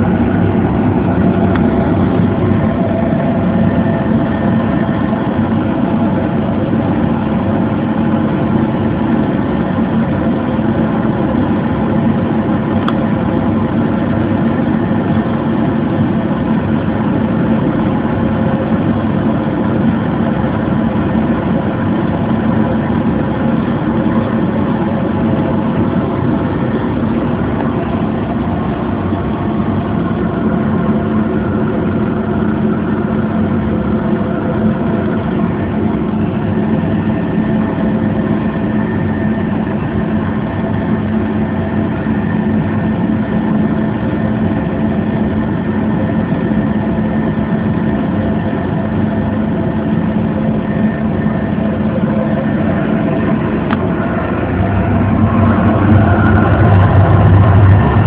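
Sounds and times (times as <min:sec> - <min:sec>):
oil burner blower humming: 0:00.0 - 0:58.0.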